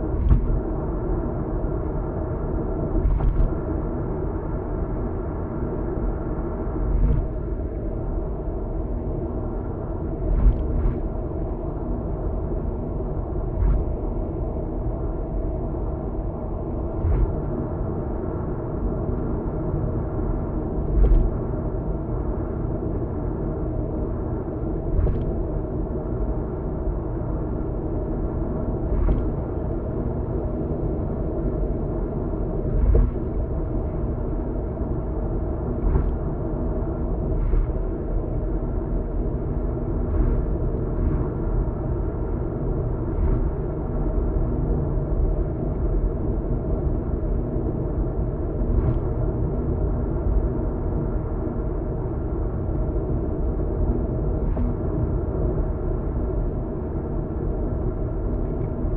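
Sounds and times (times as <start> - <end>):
car road noise rumble: 0.0 - 58.9.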